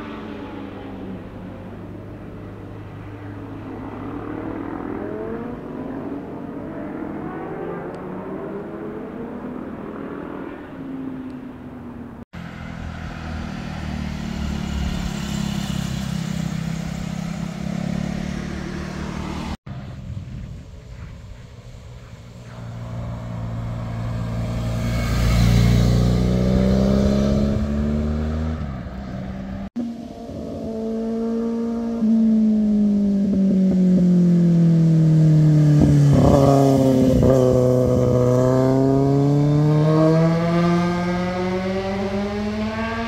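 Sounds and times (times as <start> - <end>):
motorcycle engines passing by: 0.0 - 43.0.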